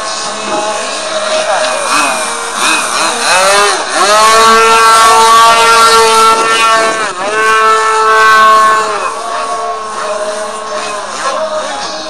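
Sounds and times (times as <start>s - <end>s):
model airplane motor whining: 0.0s - 10.9s.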